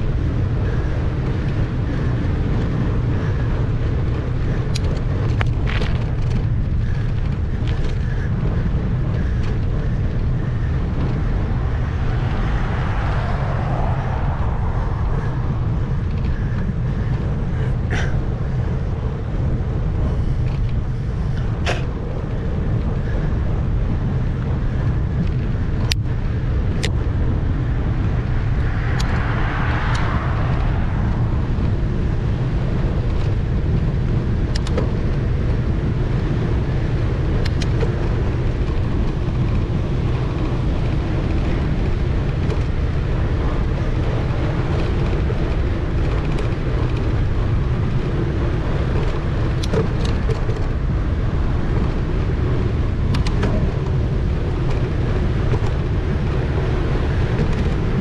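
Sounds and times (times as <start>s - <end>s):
bicycle tyres rolling on asphalt: 0.0s - 58.0s
wind buffeting microphone: 0.0s - 58.0s.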